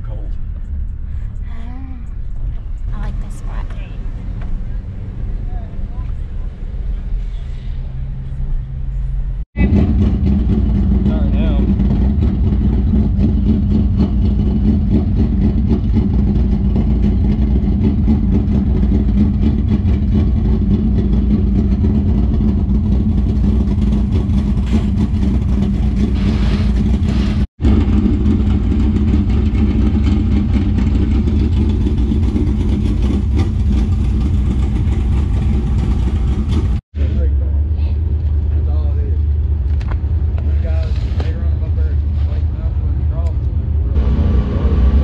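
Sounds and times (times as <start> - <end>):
steady engine drone: 0.0 - 45.0.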